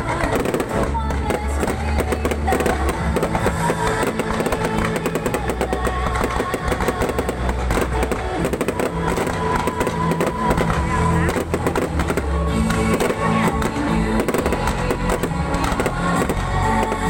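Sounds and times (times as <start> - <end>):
fireworks crackling and popping: 0.0 - 17.0
music with steady bass: 0.0 - 17.0.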